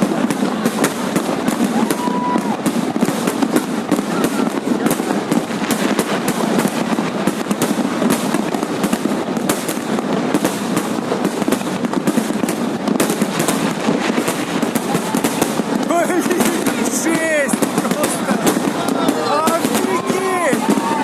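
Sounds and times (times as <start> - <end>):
fireworks crackling bangs: 0.0 - 21.0.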